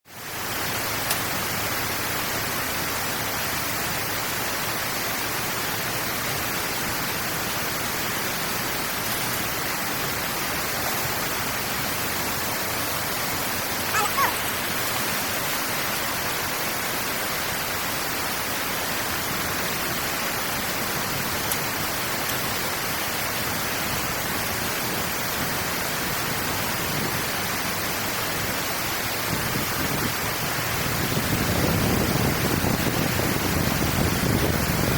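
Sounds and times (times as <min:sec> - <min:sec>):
flowing water: 0:00.1 - 0:34.9.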